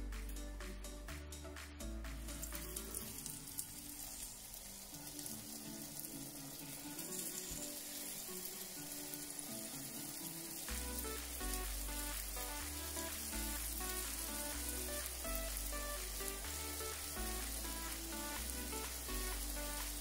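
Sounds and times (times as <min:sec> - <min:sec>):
soft background music: 0:00.0 - 0:20.0
batter sizzling in hot oil: 0:02.2 - 0:20.0.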